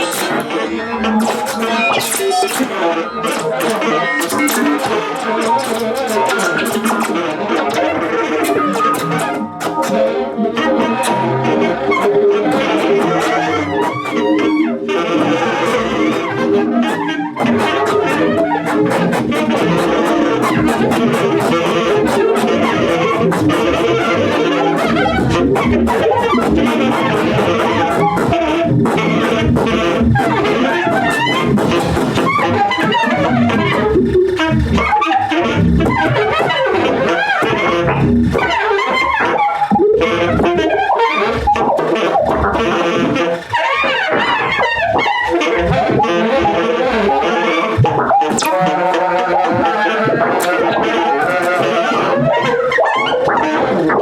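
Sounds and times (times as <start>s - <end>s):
electronic sounds: 0.0s - 54.0s
saxophone tones: 0.0s - 54.0s.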